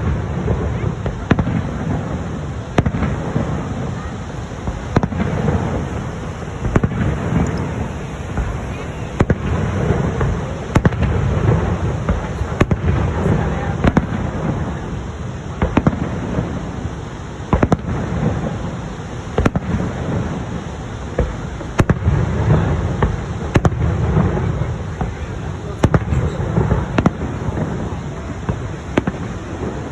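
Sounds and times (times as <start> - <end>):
fireworks bangs: 0.0 - 29.9.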